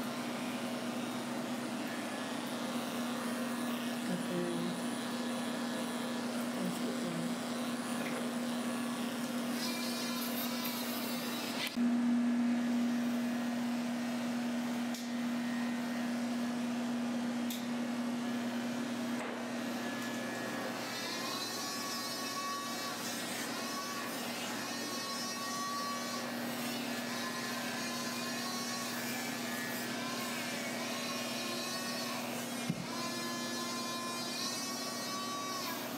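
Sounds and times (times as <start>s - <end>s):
electric clippers humming: 0.0s - 12.0s, 12.6s - 35.9s.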